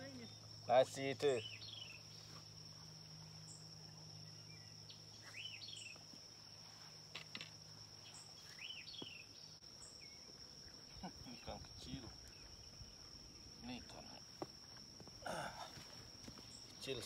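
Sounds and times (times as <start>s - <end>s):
bird singing: 0.0s - 17.0s
high-pitched insect trill: 0.0s - 17.0s.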